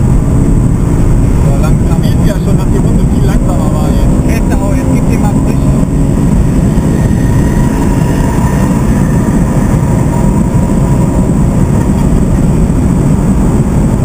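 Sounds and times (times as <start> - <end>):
car engine drone inside cabin: 0.0 - 14.0
tyre and wind noise: 0.0 - 14.0.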